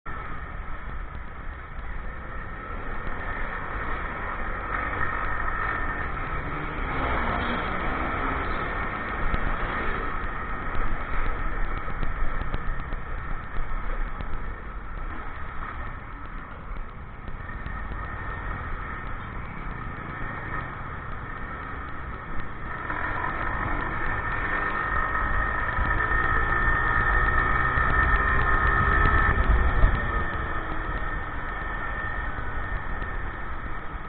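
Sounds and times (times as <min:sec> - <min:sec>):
low rumble: 0:00.1 - 0:34.0
motorcycle engine running: 0:00.1 - 0:34.0
steady high whine: 0:00.1 - 0:34.0.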